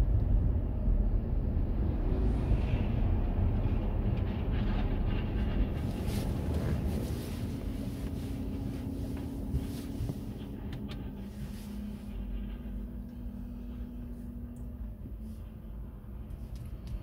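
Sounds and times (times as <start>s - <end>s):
traffic passing: 0.0s - 17.0s
car engine idling: 2.4s - 17.0s.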